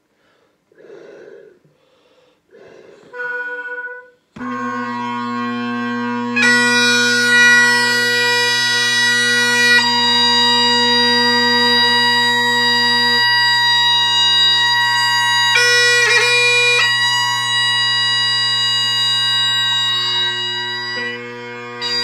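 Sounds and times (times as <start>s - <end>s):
breaths filling bagpipe bag: 1.9s - 22.0s
bagpipe chanter notes: 3.1s - 22.0s
bagpipe drones: 3.1s - 22.0s.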